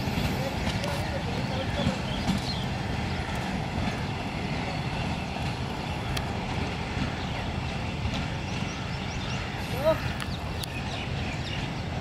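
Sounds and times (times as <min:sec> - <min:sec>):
diesel train rumbling on track: 0:00.0 - 0:12.0.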